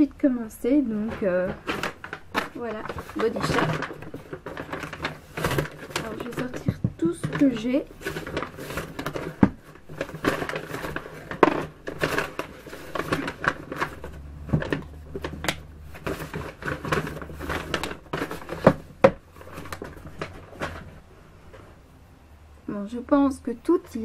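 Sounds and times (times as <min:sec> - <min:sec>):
paper bag rustling: 0:00.8 - 0:21.8.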